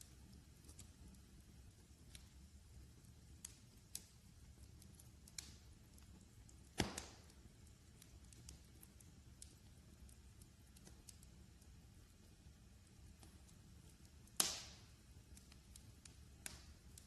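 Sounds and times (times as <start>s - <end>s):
sharp pops of fire: 0.0s - 12.0s, 12.8s - 17.0s
wood fire crackling: 0.0s - 17.0s.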